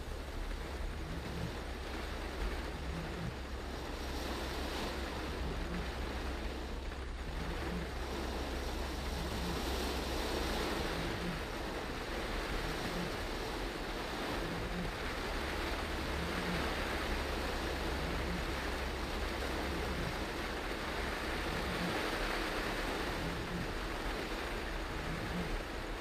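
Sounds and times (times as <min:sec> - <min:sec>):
heavy rain on a car: 0:00.0 - 0:26.0
low road rumble: 0:00.0 - 0:26.0
tyres on a flooded road: 0:00.0 - 0:26.0.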